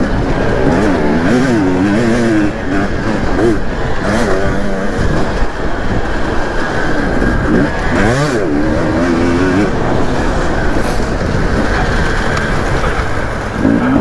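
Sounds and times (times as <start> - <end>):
dirt bike engine revving: 0.0 - 14.0
wind rushing: 0.0 - 14.0.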